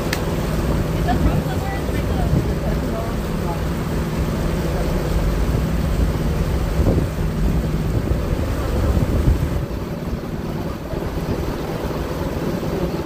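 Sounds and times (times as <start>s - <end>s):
boat engine humming: 0.0s - 13.0s
wind buffeting microphone: 0.0s - 13.0s.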